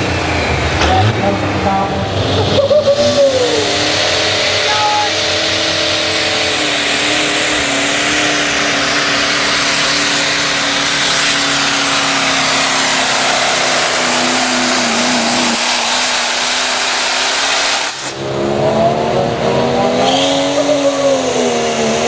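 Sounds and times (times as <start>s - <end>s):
diesel truck engine under load: 0.0s - 22.0s
engine revving: 0.0s - 22.0s.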